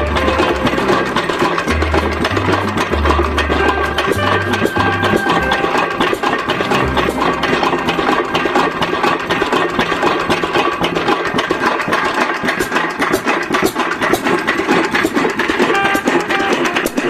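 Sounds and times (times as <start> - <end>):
diesel engine knocking: 0.0 - 17.0.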